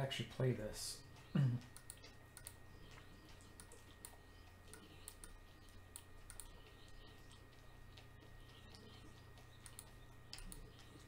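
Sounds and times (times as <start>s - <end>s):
low steady hum: 0.0s - 11.0s
computer mouse clicking: 1.1s - 11.0s
keyboard clicking: 1.2s - 11.0s.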